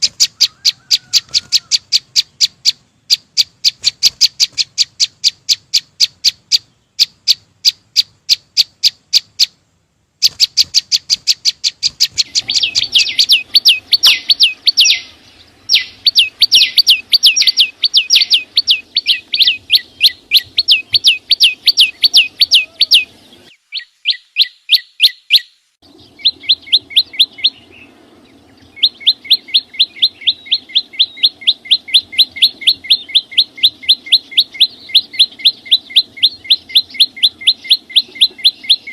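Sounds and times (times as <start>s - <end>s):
songbird high chirps: 0.0s - 9.6s, 10.2s - 38.9s.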